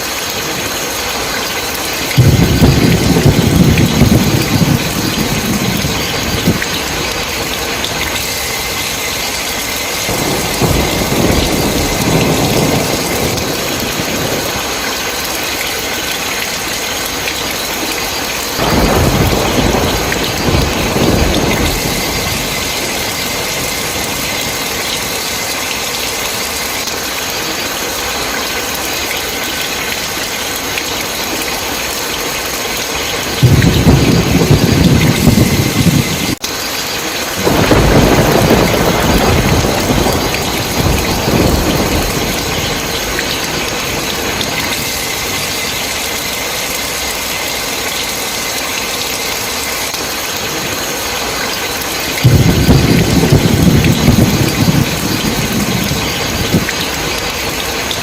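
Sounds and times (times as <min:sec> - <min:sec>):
heavy rain: 0:00.0 - 0:58.0
thunder rumbling: 0:00.6 - 0:27.8, 0:31.1 - 0:47.6, 0:49.8 - 0:58.0.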